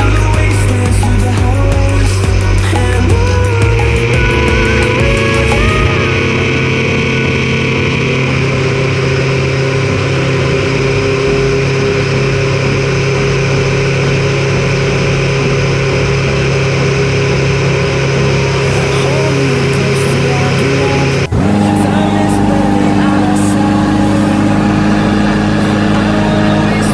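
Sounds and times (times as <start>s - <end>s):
propeller aircraft engine droning: 0.0s - 26.9s.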